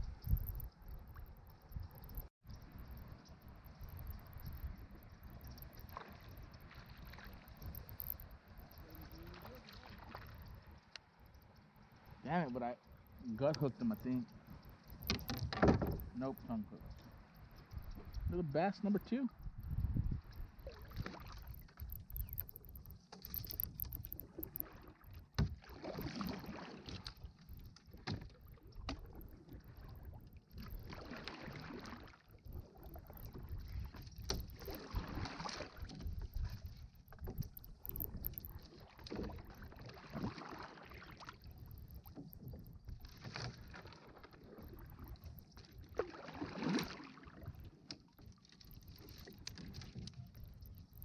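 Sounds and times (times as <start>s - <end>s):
water splashing around a kayak: 0.0s - 51.0s.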